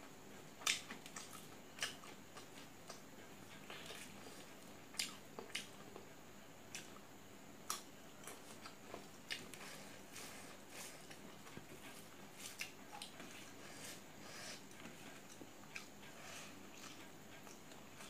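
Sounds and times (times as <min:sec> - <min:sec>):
person chewing food: 0:00.6 - 0:18.0.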